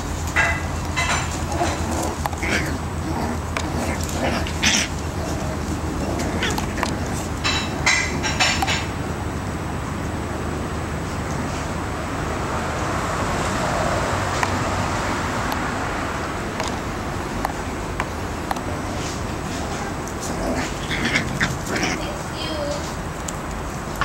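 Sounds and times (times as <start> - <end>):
road traffic: 0.0 - 24.0
vehicle passing: 0.0 - 24.0.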